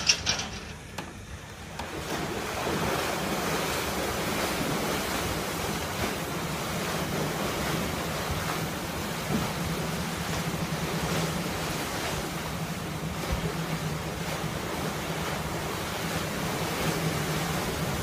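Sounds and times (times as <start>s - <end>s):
paddle wheels churning water: 0.0s - 18.0s.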